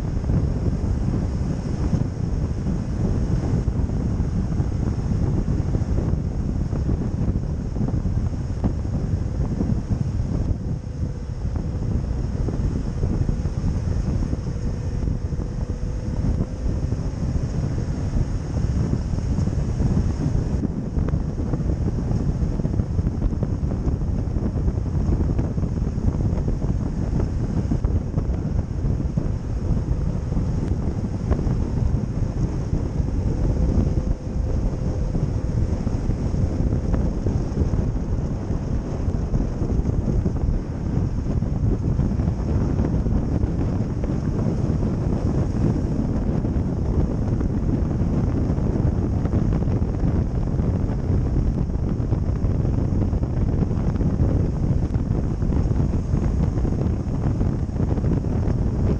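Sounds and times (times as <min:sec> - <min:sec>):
faint hum: 0:00.0 - 0:58.9
low rumbling noise: 0:00.0 - 0:58.9
wind buffeting microphone: 0:00.0 - 0:58.9.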